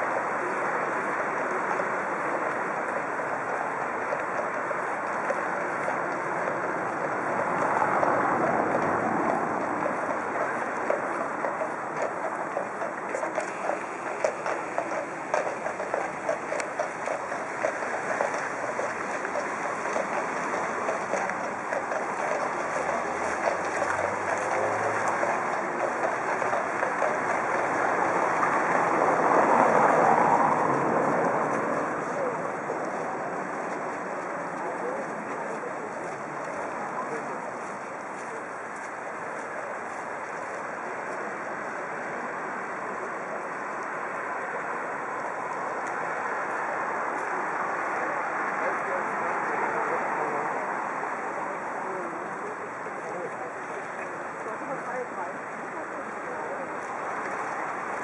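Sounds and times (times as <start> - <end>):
flowing river water: 0.0 - 58.0
street traffic noise: 0.0 - 58.0
vehicle engine: 0.7 - 58.0.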